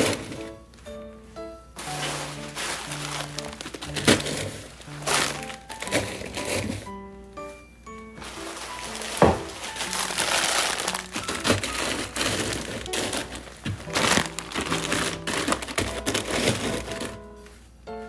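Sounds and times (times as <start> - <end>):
plastic packaging crinkling: 0.0 - 0.9, 1.8 - 6.9, 8.2 - 17.6
background music: 0.0 - 18.0.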